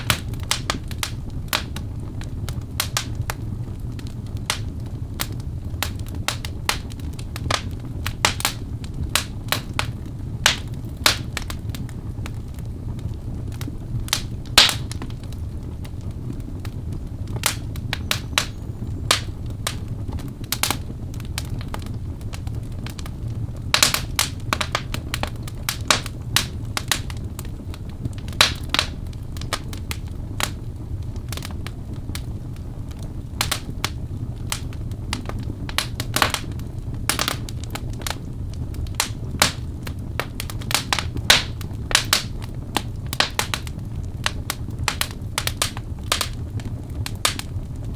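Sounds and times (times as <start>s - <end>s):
logs popping and crackling: 0.0s - 47.9s
low rumble of flames: 0.0s - 47.9s.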